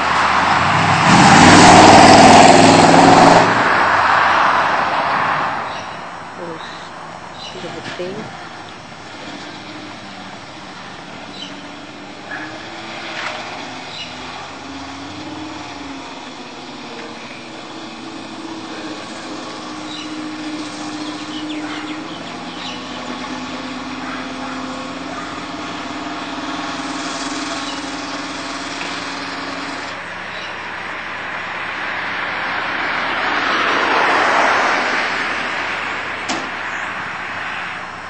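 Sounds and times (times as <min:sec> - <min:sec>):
car engine running: 0:05.7 - 0:38.0.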